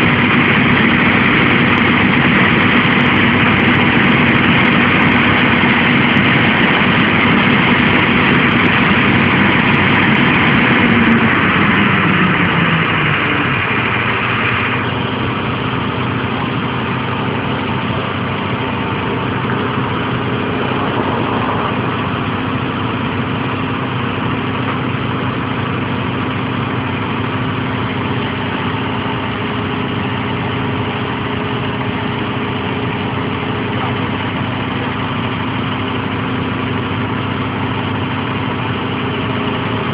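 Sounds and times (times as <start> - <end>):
high-pitched machine noise: 0.0 - 34.0
diesel engine running: 0.0 - 39.9.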